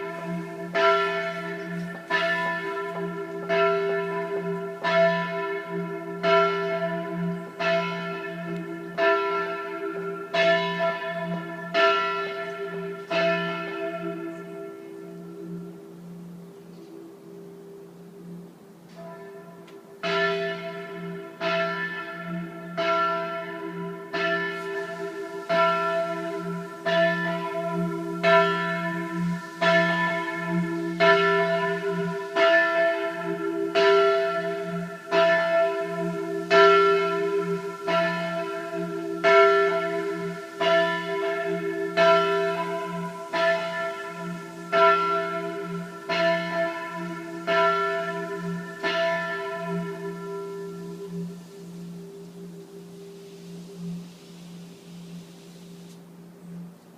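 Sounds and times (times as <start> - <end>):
deep hum of large bell: 0.0 - 55.2
church bells ringing: 0.0 - 56.7.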